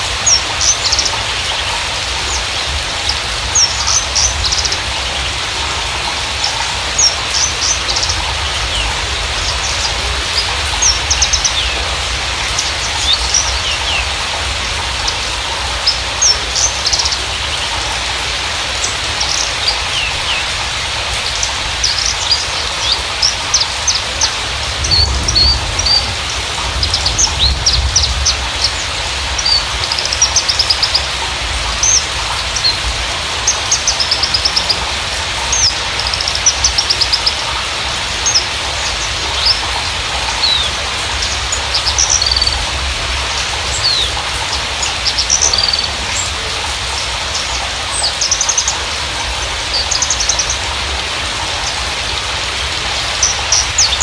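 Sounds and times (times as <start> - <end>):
bird singing chirps and trills: 0.0 - 54.0.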